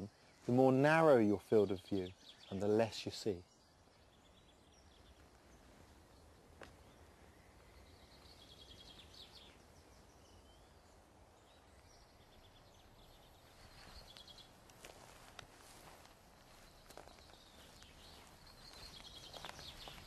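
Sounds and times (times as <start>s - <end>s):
distant songbirds trilling: 0.0s - 20.0s.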